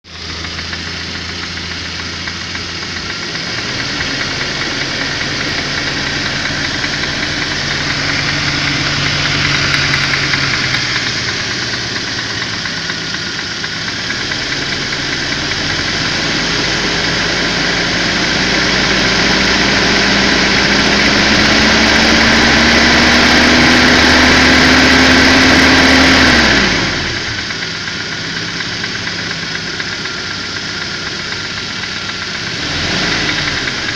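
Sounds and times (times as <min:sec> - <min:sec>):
engine knocking: 0:00.0 - 0:33.9
petrol engine running: 0:00.0 - 0:33.9.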